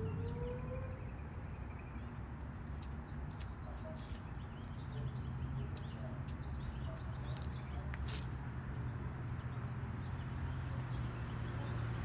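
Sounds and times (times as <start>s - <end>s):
rumble of car traffic: 0.0s - 12.0s
small birds chirping: 0.0s - 12.0s.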